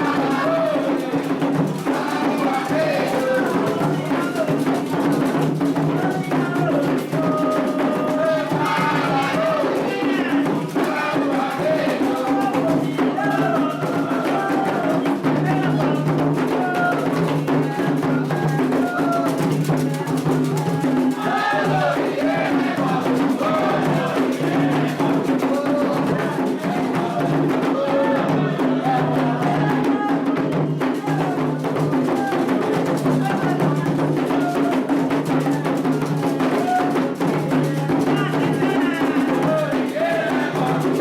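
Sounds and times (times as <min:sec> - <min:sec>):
group of voices singing: 0:00.0 - 0:41.0
hand drums rhythm: 0:00.0 - 0:41.0.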